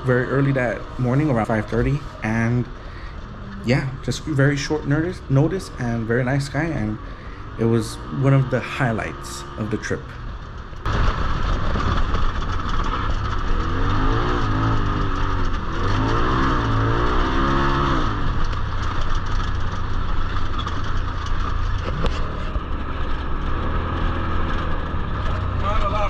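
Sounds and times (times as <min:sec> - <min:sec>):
off-road vehicle engine revving: 0:00.0 - 0:26.0
wind and ground noise: 0:00.0 - 0:26.0.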